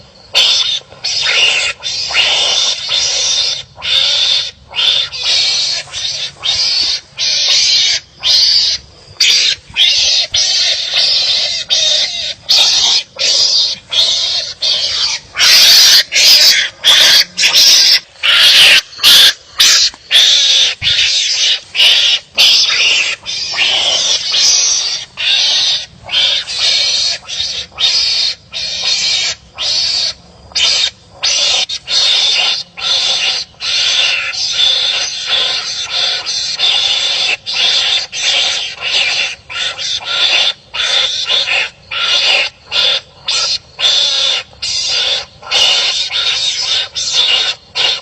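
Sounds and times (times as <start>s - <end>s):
animals barking harshly: 0.0s - 48.0s.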